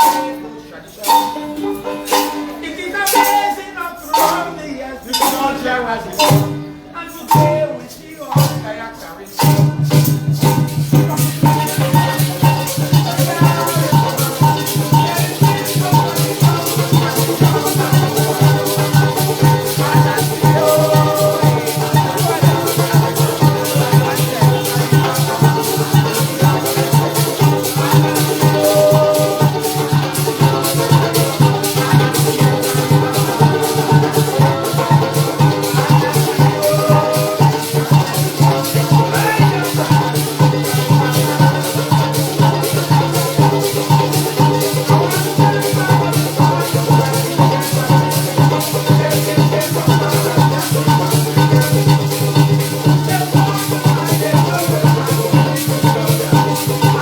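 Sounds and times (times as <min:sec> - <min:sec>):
maracas shaking: 0:00.0 - 0:57.0
strummed string instruments: 0:00.0 - 0:57.0.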